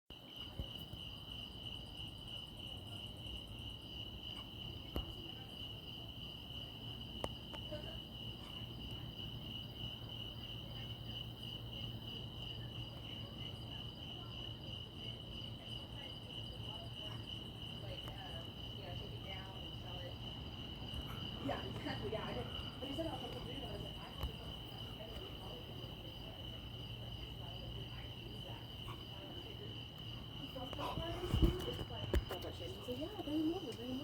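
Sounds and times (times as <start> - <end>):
crickets chirping: 0.1 - 34.0.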